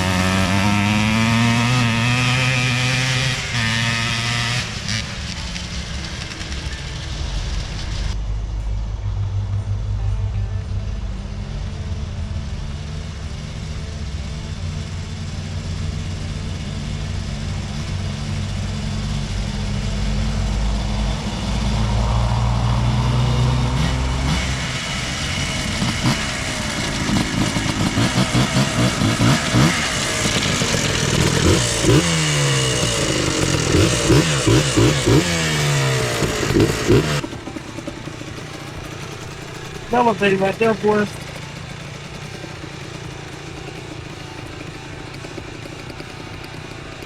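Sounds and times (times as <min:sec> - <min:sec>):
two-stroke engine revving: 0:00.0 - 0:08.3, 0:10.6 - 0:47.0.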